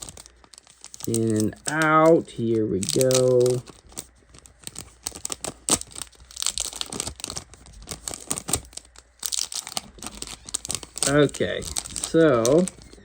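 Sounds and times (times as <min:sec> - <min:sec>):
plastic sleeve crinkling and scraping: 0:00.0 - 0:13.0.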